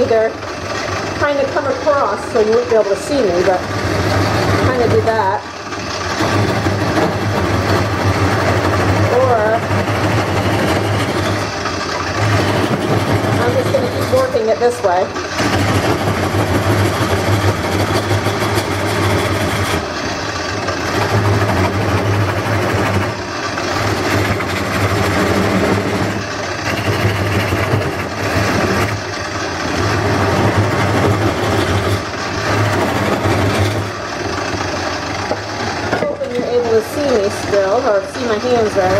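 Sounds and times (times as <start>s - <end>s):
lathe motor hum: 0.0s - 38.9s
turning tool cutting wood: 0.0s - 38.9s.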